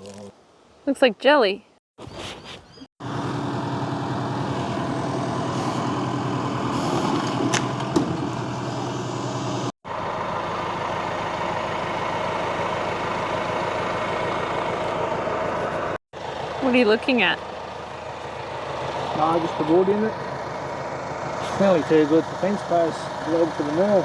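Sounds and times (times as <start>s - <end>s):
tractor engine running: 3.0s - 24.0s.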